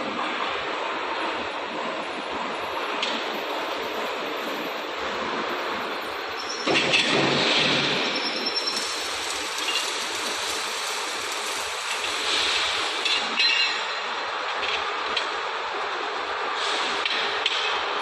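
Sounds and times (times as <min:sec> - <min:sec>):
steady noise: 0:00.0 - 0:18.0.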